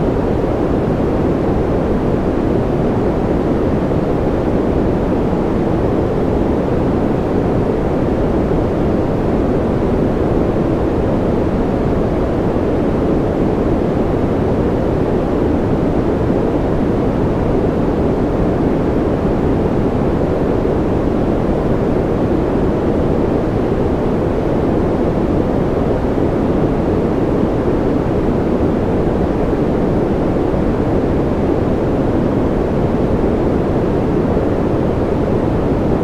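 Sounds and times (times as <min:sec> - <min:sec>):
deep muffled white noise: 0:00.0 - 0:36.0.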